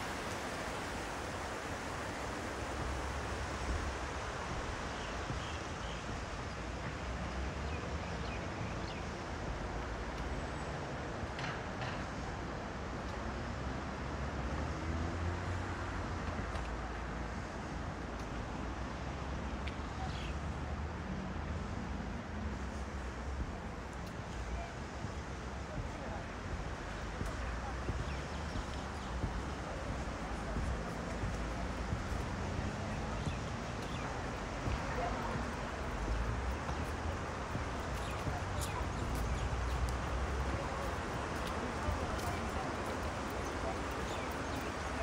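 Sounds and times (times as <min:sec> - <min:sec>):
river water rushing: 0:00.0 - 0:08.6, 0:12.8 - 0:45.0
low rumble of traffic or wind: 0:00.0 - 0:45.0.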